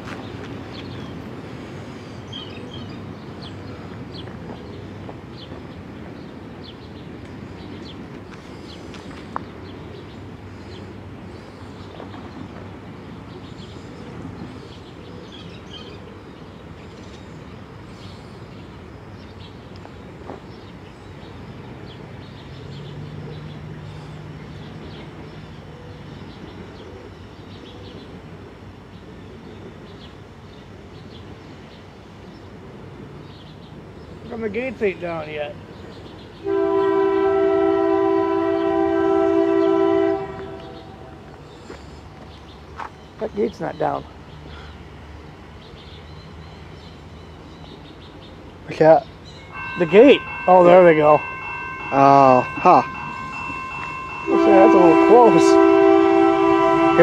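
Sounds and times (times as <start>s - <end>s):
birds chirping: 0.1s - 57.0s.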